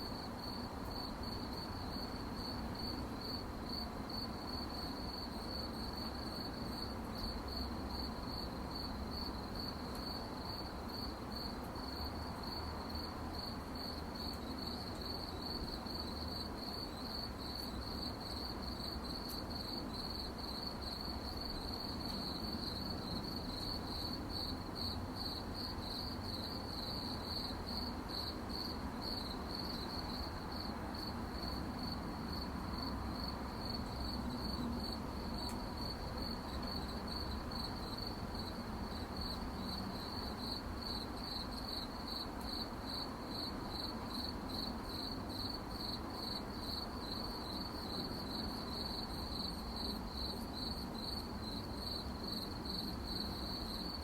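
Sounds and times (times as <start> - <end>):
crickets chirping: 0.0 - 54.0
low background hiss: 0.0 - 54.0.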